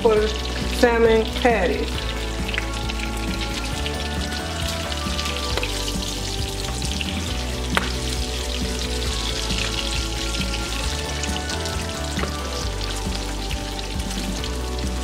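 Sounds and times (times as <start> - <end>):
bacon sizzling in a frying pan: 0.0 - 15.0.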